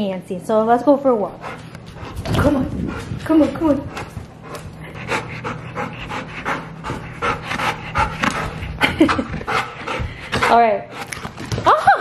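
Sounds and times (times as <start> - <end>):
dog panting: 1.1 - 11.5.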